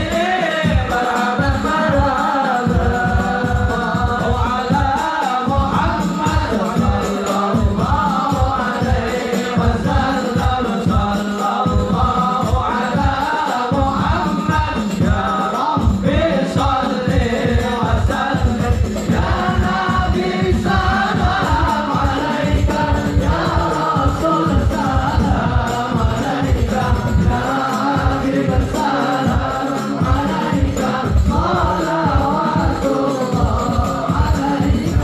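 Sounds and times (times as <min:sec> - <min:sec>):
frame drums beating: 0:00.0 - 0:35.0
group of voices singing: 0:00.0 - 0:35.0.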